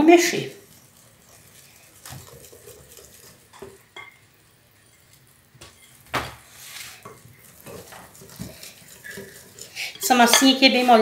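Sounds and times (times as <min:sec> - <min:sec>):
whisk stirring batter: 0:00.0 - 0:04.2, 0:04.8 - 0:11.0.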